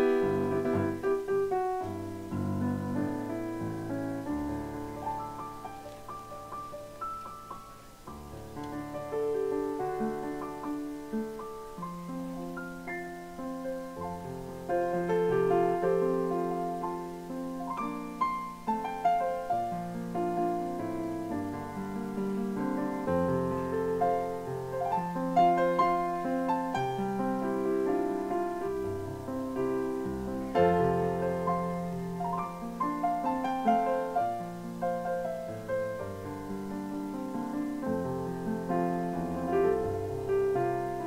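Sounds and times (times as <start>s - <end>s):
slow solo piano piece: 0.0s - 41.0s.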